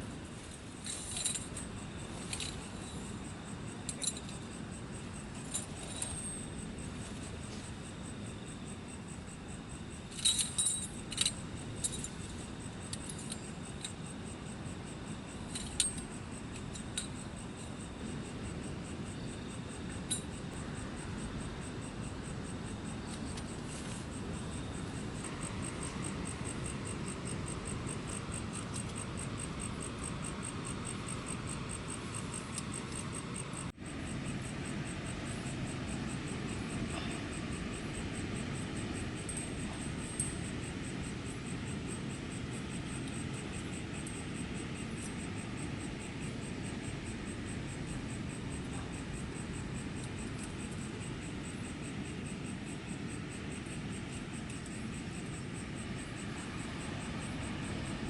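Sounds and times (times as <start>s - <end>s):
high insect trill: 0.0s - 58.0s
light metallic clinks: 0.0s - 58.0s.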